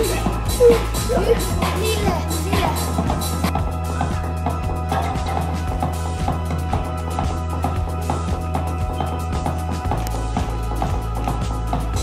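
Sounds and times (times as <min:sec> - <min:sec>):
dance music with steady beat: 0:00.0 - 0:12.0
held continuous bass: 0:00.0 - 0:12.0.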